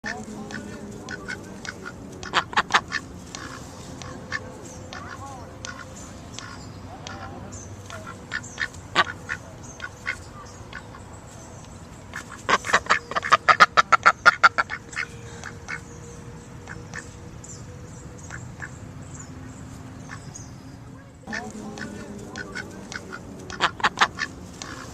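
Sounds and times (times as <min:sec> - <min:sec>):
ducks quacking: 0:00.0 - 0:24.9.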